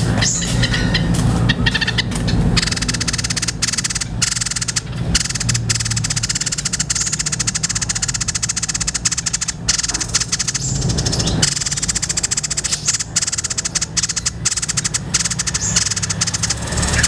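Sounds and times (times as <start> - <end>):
low steady hum: 0.0 - 17.0
songbird rattling chatter: 0.0 - 17.0.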